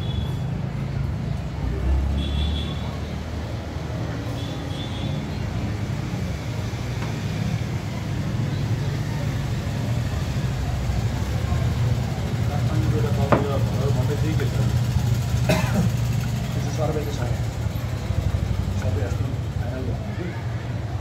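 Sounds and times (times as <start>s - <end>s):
faint voices: 2.8s - 21.0s.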